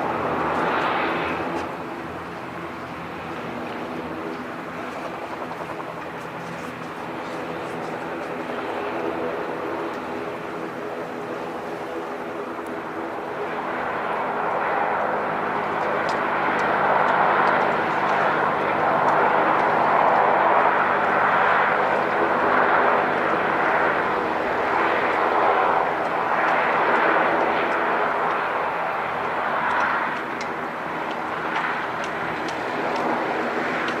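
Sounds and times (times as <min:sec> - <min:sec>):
aircraft engines roaring: 0:00.0 - 0:34.0.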